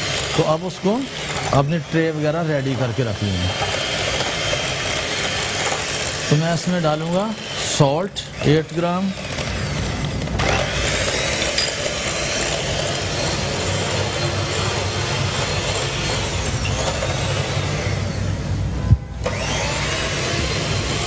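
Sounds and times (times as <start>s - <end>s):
electric hand mixer running: 0.0s - 21.0s.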